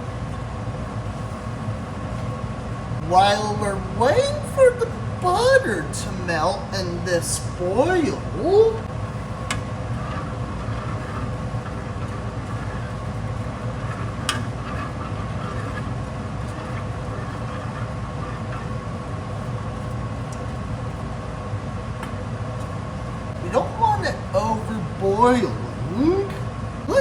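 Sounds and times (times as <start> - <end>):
ventilation fan humming: 0.0 - 27.0.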